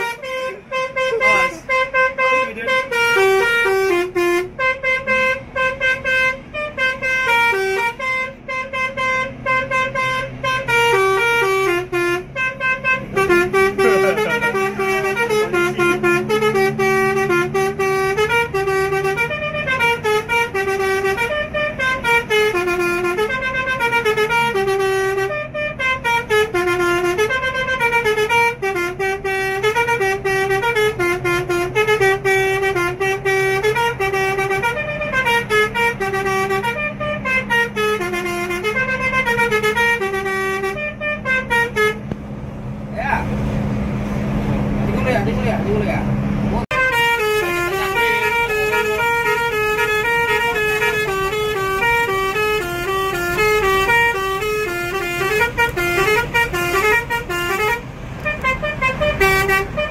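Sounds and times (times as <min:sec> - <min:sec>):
bus multi-tone horn playing a tune: 0:00.0 - 0:42.2, 0:46.6 - 0:59.9.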